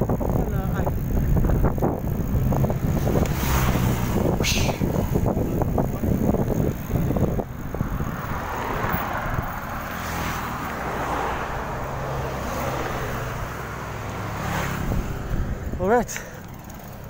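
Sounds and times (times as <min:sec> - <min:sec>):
motor vehicle engine hum: 0:00.0 - 0:17.0
rush of wind: 0:00.0 - 0:17.0
traffic noise: 0:00.0 - 0:17.0
wind buffeting microphone: 0:00.0 - 0:17.0.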